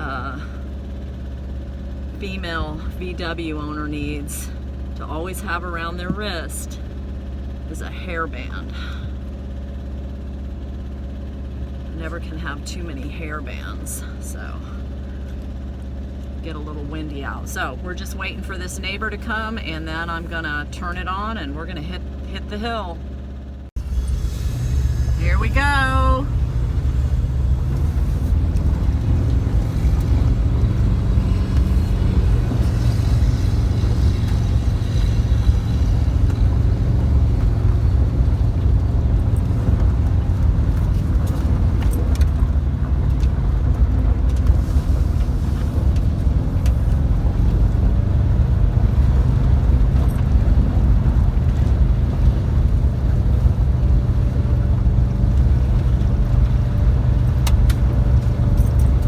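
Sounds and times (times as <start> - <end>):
engine drone inside vehicle: 0.0 - 59.0
road rumble: 0.0 - 59.0.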